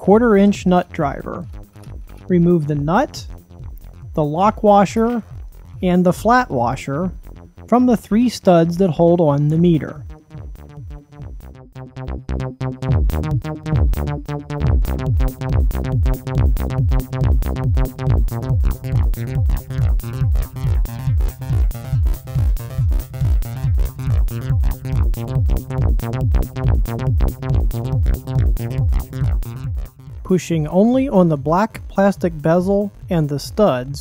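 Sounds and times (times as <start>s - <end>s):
drum-machine beat: 0.0s - 34.0s
electronic synthesizer music: 0.0s - 34.0s.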